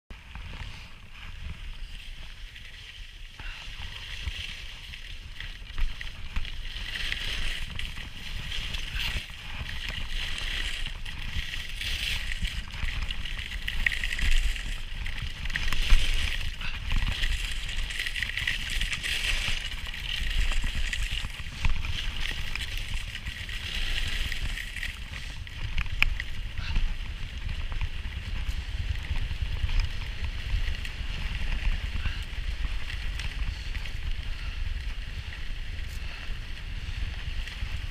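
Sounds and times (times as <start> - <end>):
skis scraping on packed snow: 0.1 - 37.9
wind buffeting microphone: 3.4 - 37.9.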